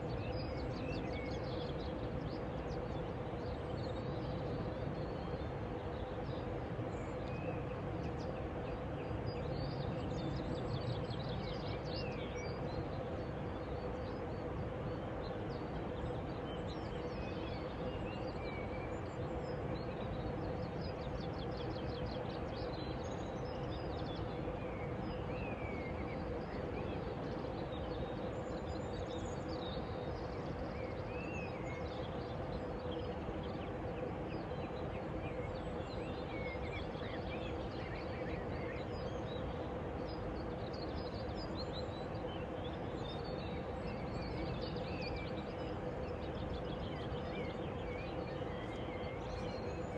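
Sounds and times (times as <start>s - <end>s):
faint constant hum: 0.0s - 49.9s.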